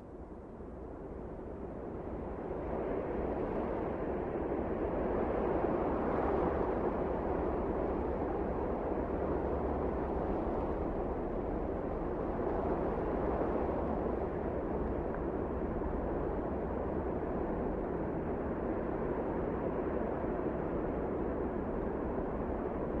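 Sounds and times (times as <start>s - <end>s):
steady wind blowing: 1.2s - 23.0s.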